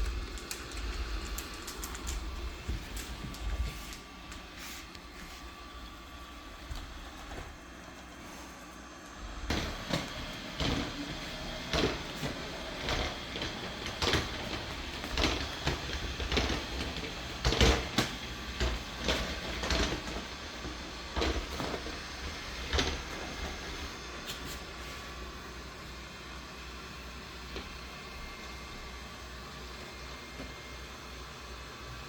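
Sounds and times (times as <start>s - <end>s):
robot vacuum hum: 0.0s - 32.0s.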